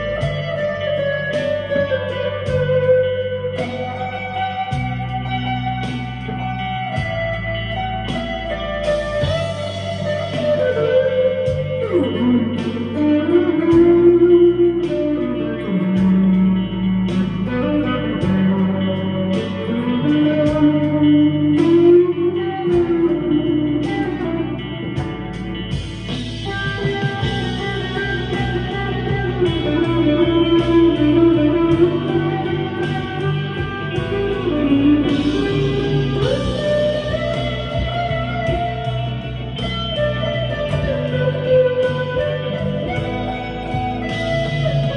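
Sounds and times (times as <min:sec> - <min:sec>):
electric guitar melodic lines: 0:00.0 - 0:44.9
low bass notes: 0:00.0 - 0:44.9
steady beat: 0:00.0 - 0:44.9.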